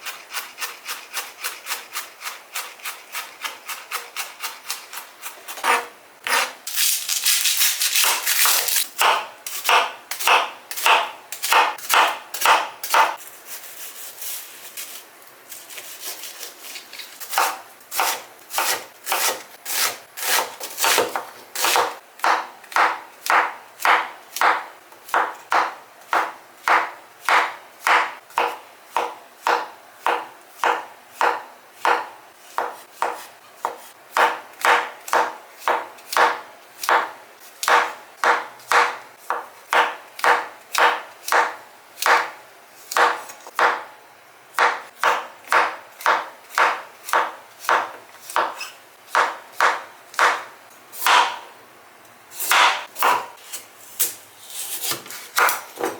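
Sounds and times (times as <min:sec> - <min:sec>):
knife chopping vegetables: 0:00.0 - 0:14.4, 0:15.5 - 0:51.5, 0:52.3 - 0:55.9.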